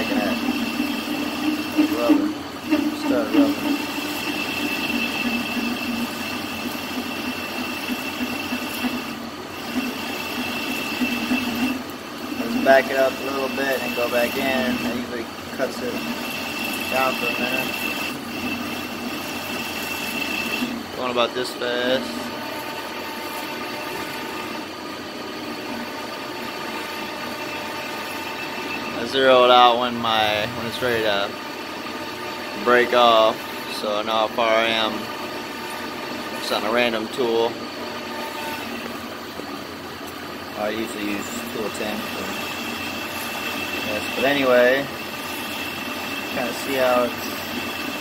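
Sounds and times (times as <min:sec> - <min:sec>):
high-pitched tool rubbing tone: 0:00.0 - 0:24.7, 0:32.6 - 0:38.9, 0:40.6 - 0:48.0
metal lathe running: 0:00.0 - 0:48.0.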